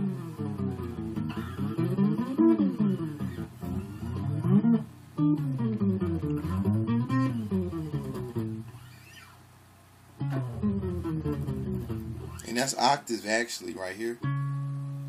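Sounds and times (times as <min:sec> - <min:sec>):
bass guitar strings pitch bending: 0:00.0 - 0:09.4, 0:10.2 - 0:12.5, 0:14.2 - 0:15.0.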